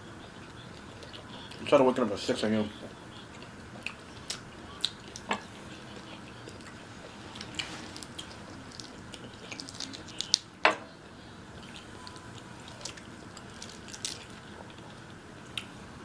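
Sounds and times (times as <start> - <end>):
people chewing and smacking: 0.0 - 15.8.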